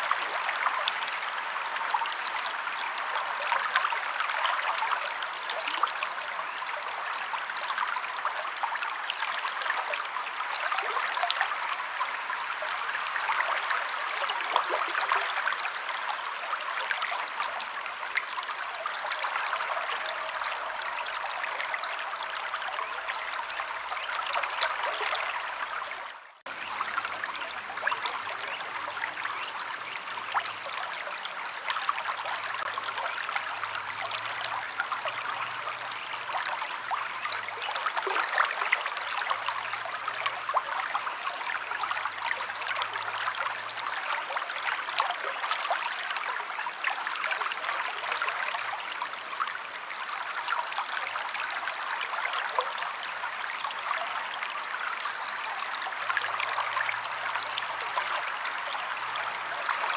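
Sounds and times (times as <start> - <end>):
stream splashing over rocks: 0.0 - 59.9.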